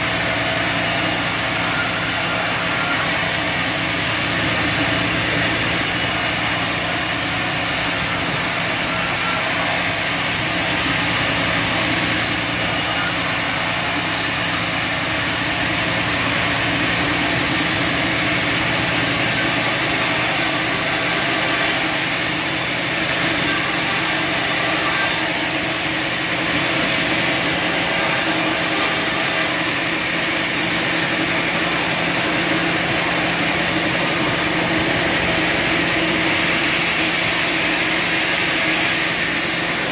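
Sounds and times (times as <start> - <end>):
bandsaw sawing through log: 0.0 - 39.9.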